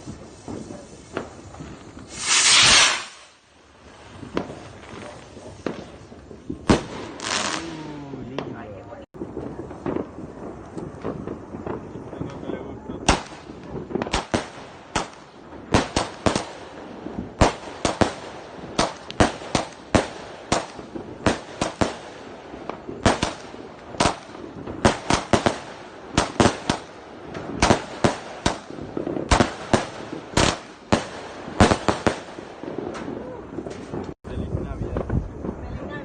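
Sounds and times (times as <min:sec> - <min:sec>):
fireworks sharp bangs: 0:00.0 - 0:36.0.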